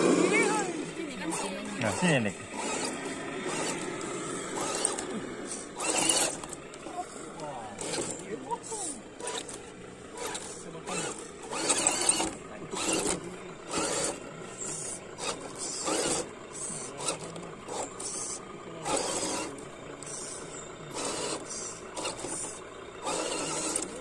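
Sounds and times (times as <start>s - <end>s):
electric motor and gearbox whirring: 0.0s - 24.0s.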